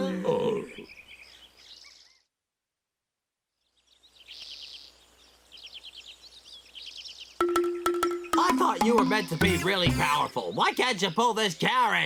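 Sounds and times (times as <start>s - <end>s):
birds chirping and trilling: 0.0s - 2.4s, 3.5s - 12.0s.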